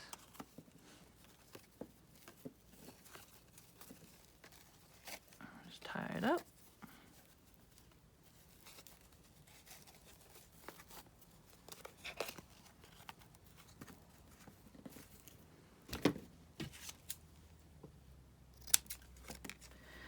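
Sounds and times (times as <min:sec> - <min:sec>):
paper and lace rustling: 0:00.1 - 0:17.7.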